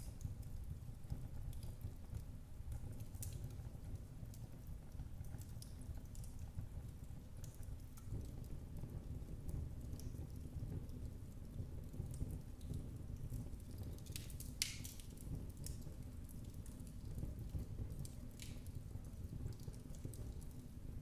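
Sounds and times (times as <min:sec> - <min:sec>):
fireplace fire crackling: 0:00.0 - 0:21.0
flames low rumble: 0:00.2 - 0:21.0.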